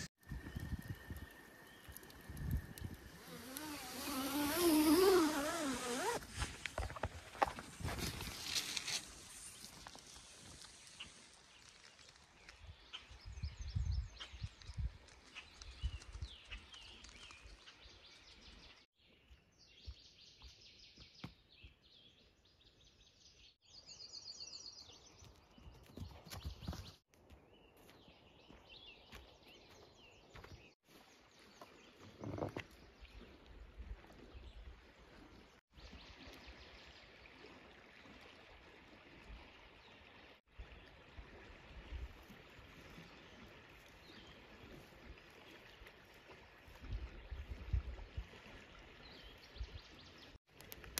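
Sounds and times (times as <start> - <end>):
lake and forest ambience: 0.0 - 50.9.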